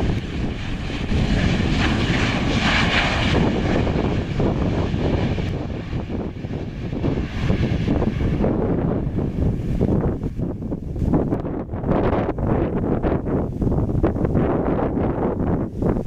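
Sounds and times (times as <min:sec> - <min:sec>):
jet engines rushing: 0:00.0 - 0:14.4
wind buffeting microphone: 0:00.0 - 0:16.0.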